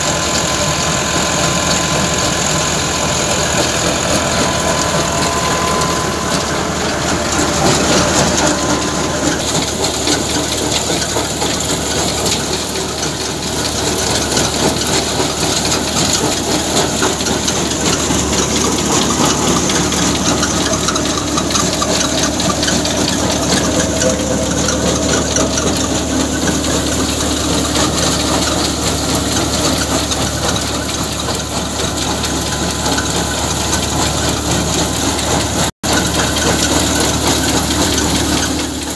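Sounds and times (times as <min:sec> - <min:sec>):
thresher drum and belts running: 0:00.0 - 0:38.9
tractor engine under load: 0:00.0 - 0:38.9.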